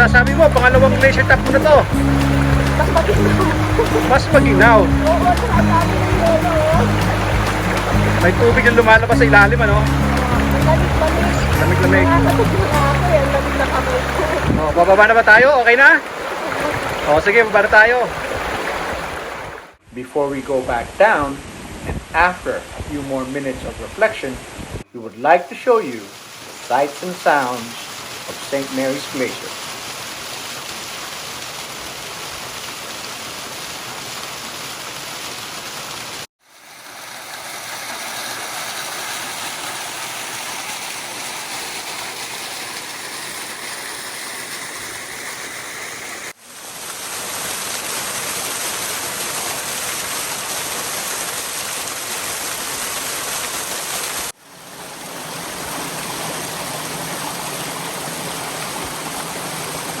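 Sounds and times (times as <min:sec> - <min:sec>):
stream and waterfall rushing: 0:00.0 - 1:00.0.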